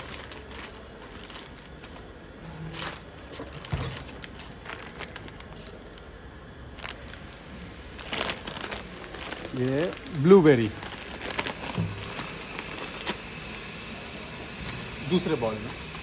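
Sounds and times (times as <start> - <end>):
foil packet crinkling: 0.0 - 16.0.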